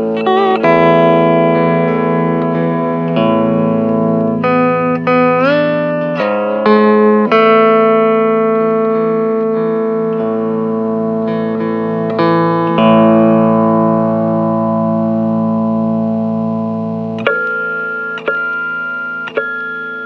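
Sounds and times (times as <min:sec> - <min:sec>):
steel guitar slow notes: 0:00.0 - 0:20.0.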